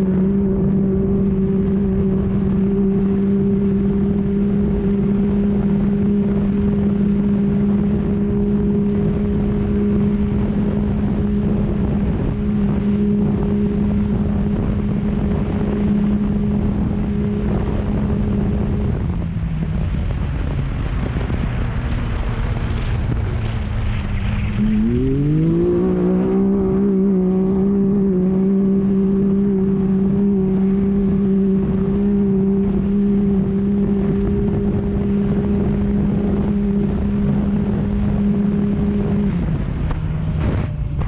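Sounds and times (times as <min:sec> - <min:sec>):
race vehicle engine revving: 0:00.0 - 0:41.0
wind on microphone: 0:00.0 - 0:41.0.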